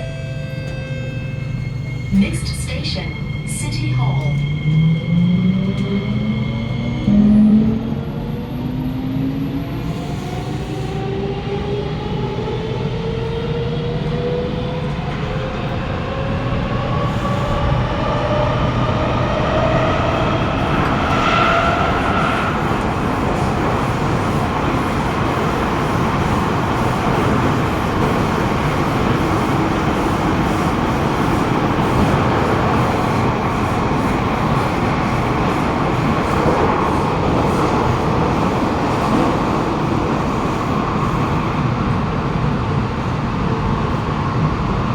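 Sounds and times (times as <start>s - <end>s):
train rumbling on rails: 0.0s - 44.9s.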